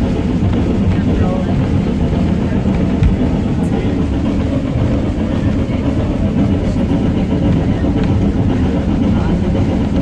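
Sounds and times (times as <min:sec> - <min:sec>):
railway carriage rumbling on track: 0:00.0 - 0:10.0.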